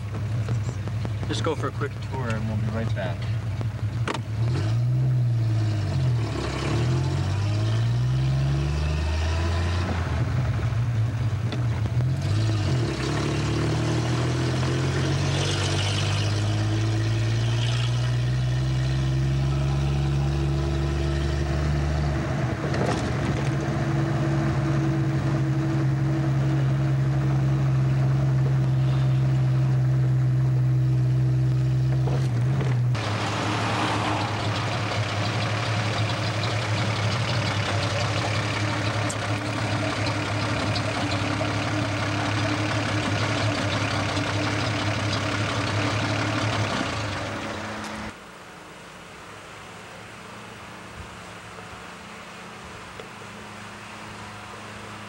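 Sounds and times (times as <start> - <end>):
car engine accelerating: 0.0 - 48.2
road noise: 0.0 - 55.0.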